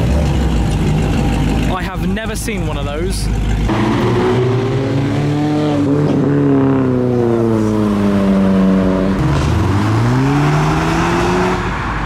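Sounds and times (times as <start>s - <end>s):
car engine running: 0.0s - 11.6s.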